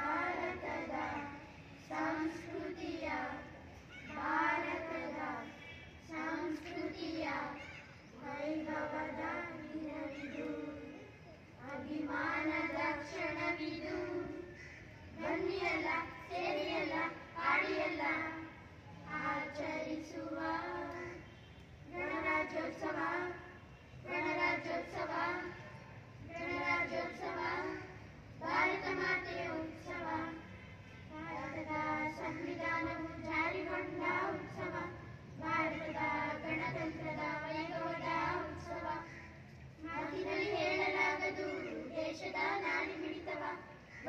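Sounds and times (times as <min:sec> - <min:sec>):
children singing: 0:00.0 - 0:05.5, 0:06.1 - 0:11.0, 0:11.6 - 0:14.6, 0:15.2 - 0:18.5, 0:19.1 - 0:21.2, 0:21.9 - 0:23.4, 0:24.0 - 0:30.5, 0:31.1 - 0:39.2, 0:39.8 - 0:44.0.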